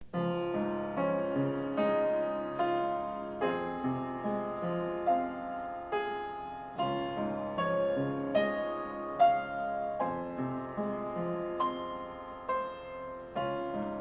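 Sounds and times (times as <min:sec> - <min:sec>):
slow gentle piano: 0:00.0 - 0:14.0.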